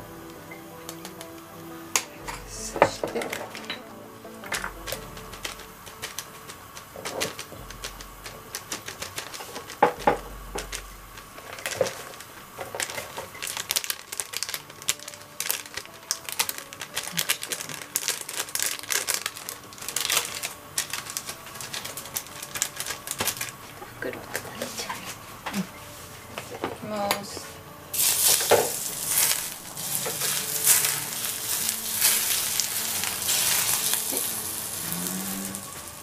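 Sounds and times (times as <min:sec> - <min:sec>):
plastic packet crinkling: 0:02.0 - 0:03.8, 0:04.4 - 0:25.2, 0:27.9 - 0:36.0.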